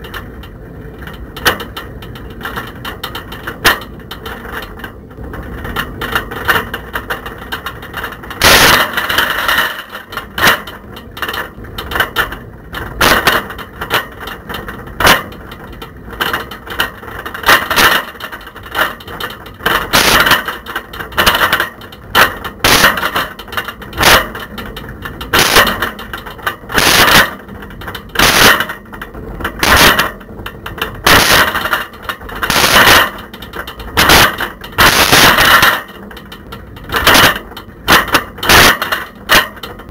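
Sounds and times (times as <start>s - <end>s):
camera rattling in bicycle basket: 0.0s - 39.9s
steady background noise: 0.0s - 39.9s.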